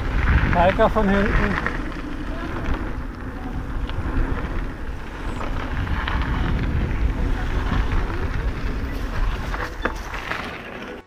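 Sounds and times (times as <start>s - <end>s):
wind buffeting microphone: 0.0s - 10.3s
bike clicks and rattles: 0.0s - 11.0s
bike tyre rumble: 0.0s - 11.0s.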